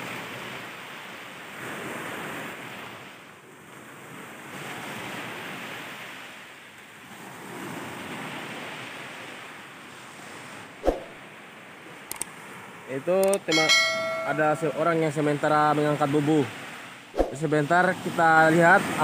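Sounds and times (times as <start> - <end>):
small waves washing onto shore: 0.0 - 19.0.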